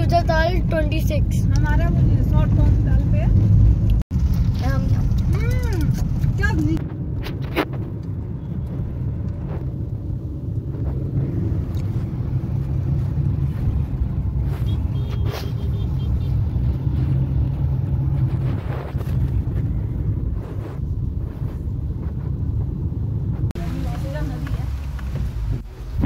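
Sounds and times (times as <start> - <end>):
car cabin engine and road rumble: 0.0 - 26.0.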